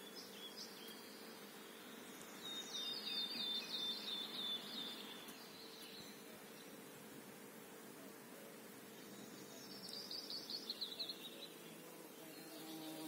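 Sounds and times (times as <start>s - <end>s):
songbird singing: 0.0s - 7.1s, 8.0s - 13.0s
faint steady hum: 0.0s - 13.0s.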